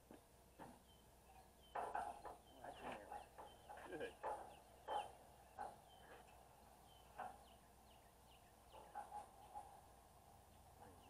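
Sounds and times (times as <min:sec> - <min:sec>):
bird chirps: 0:00.5 - 0:09.7.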